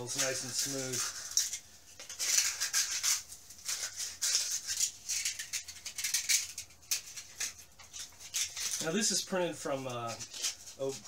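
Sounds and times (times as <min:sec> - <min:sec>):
sandpaper scratching: 0:00.0 - 0:11.0.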